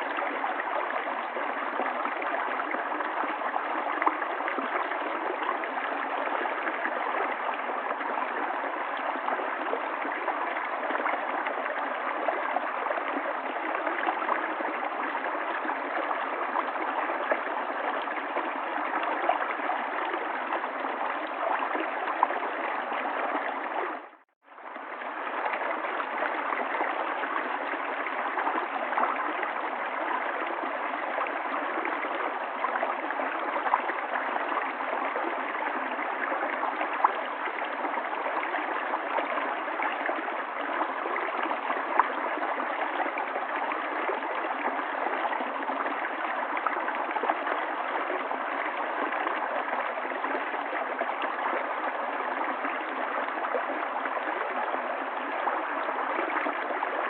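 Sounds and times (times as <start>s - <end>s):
river water flowing over stones: 0.0s - 57.0s.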